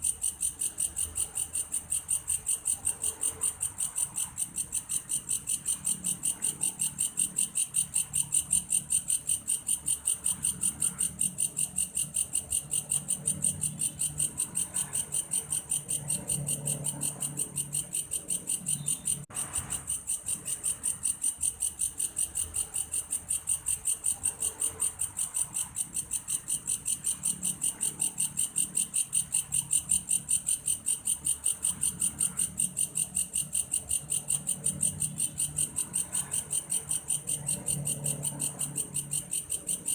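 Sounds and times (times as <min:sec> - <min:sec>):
insect chirping in pulses: 0:00.0 - 0:39.9.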